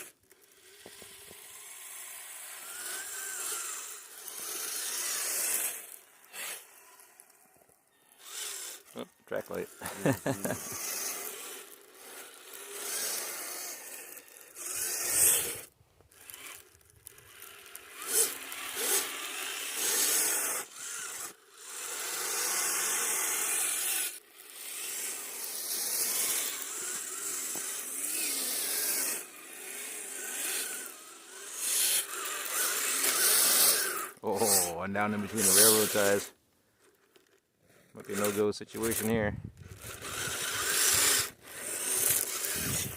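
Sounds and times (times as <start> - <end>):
electric motors and gears whining: 0.0 - 42.9.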